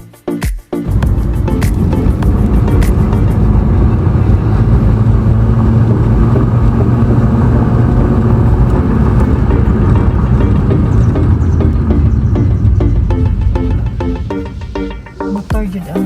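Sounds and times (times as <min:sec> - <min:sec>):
road noise: 0:00.9 - 0:16.0
vehicle engine humming: 0:00.9 - 0:16.0.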